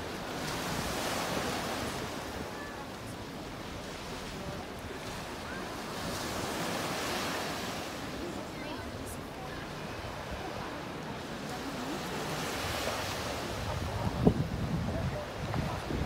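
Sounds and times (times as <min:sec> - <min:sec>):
waves washing onto sand: 0:00.0 - 0:16.0
wind: 0:00.0 - 0:16.0.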